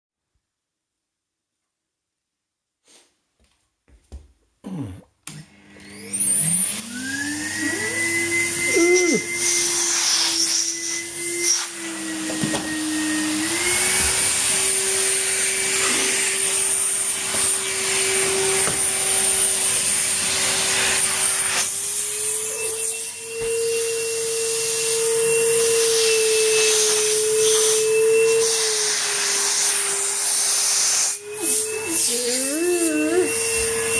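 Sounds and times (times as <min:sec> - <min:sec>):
vacuum cleaner motor whine: 0:05.3 - 0:33.9.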